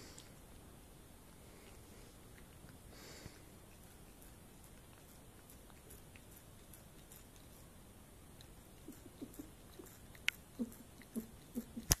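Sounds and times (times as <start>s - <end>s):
cat licking: 1.2s - 12.0s.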